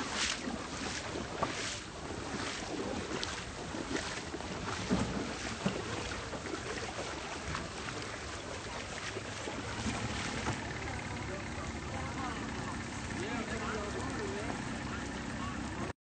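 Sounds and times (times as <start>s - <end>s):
floodwater flowing: 0.0s - 15.9s
wind: 0.0s - 15.9s.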